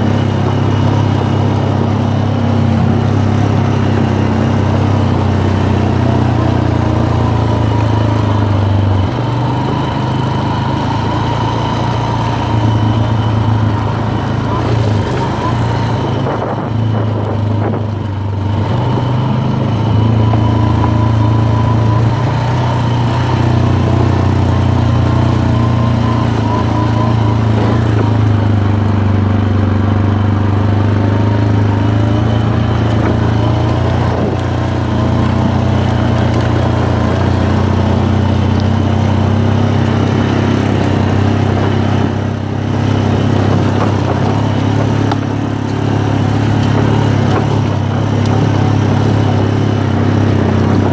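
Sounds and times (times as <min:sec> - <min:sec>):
high whine: 0:00.0 - 0:50.9
quad bike engine running: 0:00.0 - 0:50.9.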